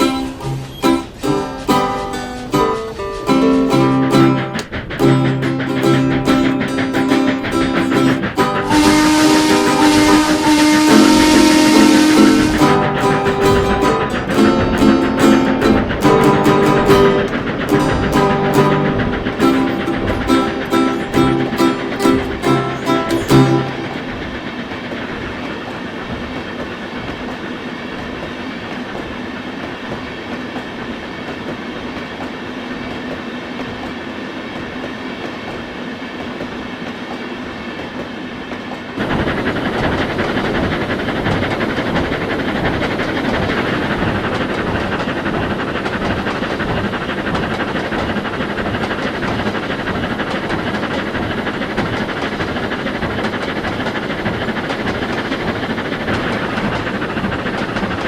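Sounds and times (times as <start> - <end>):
train rumbling on rails: 0.0 - 58.0
wheels clickety-clack: 0.0 - 58.0.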